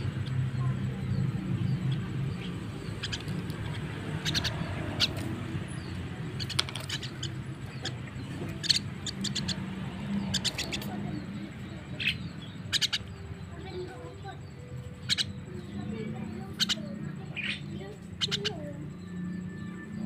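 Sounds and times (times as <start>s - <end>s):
bird chirping calls: 0.0s - 20.0s.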